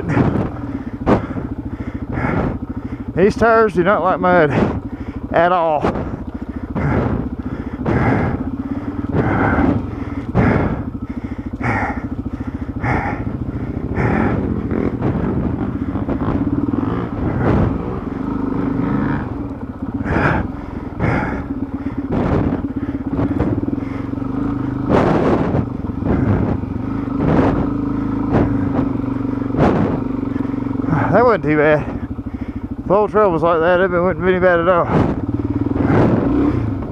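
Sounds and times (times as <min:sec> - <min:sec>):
knocks and clatter of bike: 0:00.0 - 0:36.9
motorcycle engine revving: 0:00.0 - 0:36.9.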